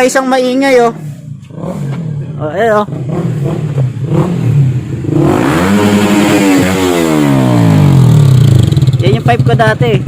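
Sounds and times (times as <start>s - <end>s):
loud motorcycle engine: 0.0s - 10.0s.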